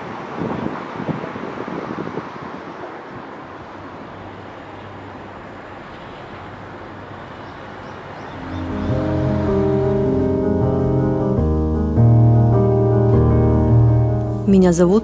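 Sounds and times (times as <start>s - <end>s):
outdoor ambient rush: 0.0s - 15.0s.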